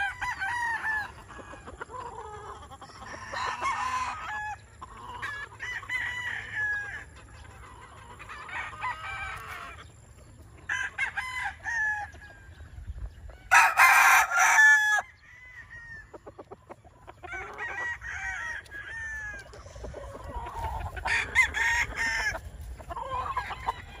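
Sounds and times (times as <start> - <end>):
chickens clucking: 0.0 - 24.0
roosters crowing: 0.0 - 24.0.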